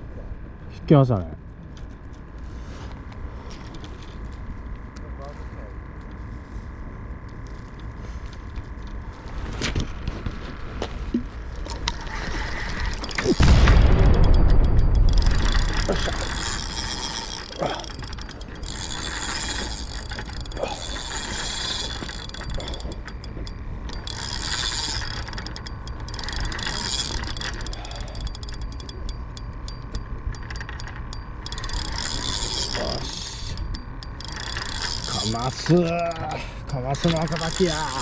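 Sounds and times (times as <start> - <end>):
fishing reel ticking whir: 1.7 - 10.1, 11.2 - 38.0.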